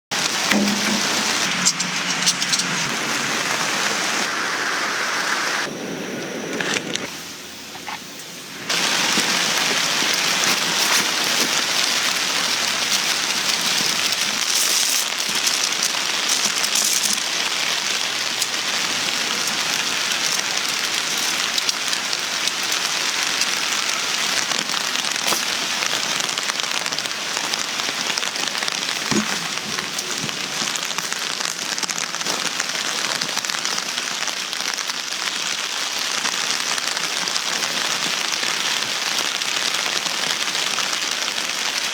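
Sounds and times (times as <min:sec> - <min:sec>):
light rain falling: 0:00.1 - 0:41.9.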